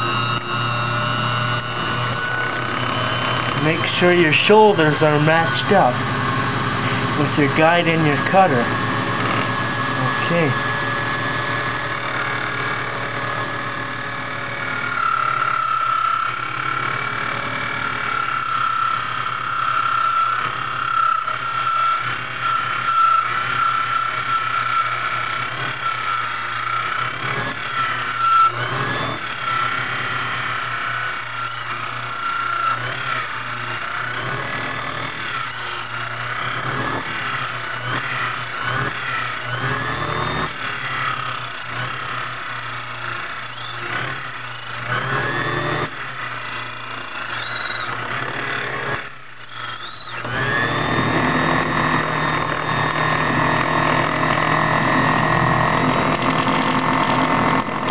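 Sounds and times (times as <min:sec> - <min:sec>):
high cutter tone: 0:00.0 - 0:57.9
key-cutting machine motor hum: 0:00.0 - 0:57.9.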